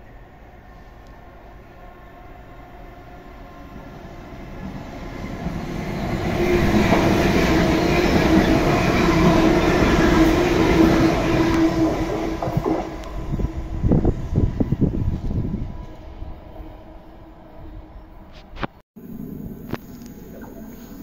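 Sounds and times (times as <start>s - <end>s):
electric train passing: 0.0s - 18.3s, 19.0s - 21.0s.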